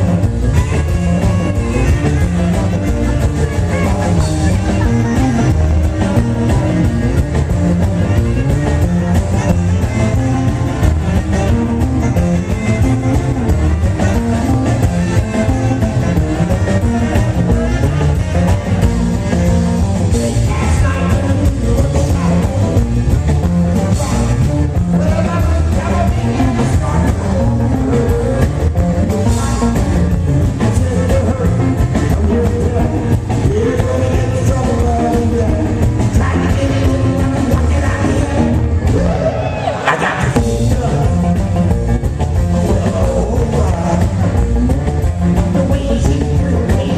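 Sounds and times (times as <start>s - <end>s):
live rock and roll band: 0.0s - 46.9s
man singing: 0.0s - 46.9s.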